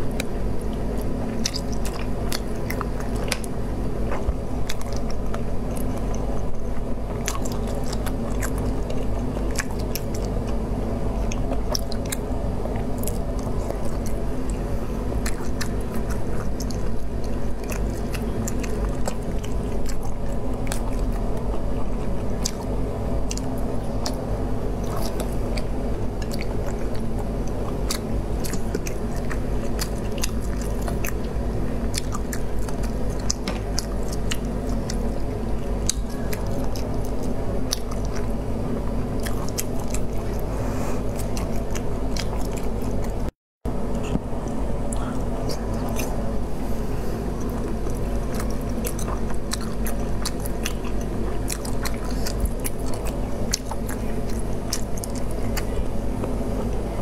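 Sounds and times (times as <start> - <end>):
wet chewing and smacking: 0.0 - 46.5, 47.1 - 57.0
steady low hum: 0.0 - 57.0.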